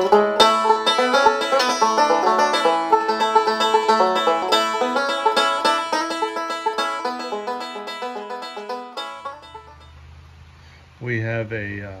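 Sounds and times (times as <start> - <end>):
plucked-string music: 0.0 - 10.0.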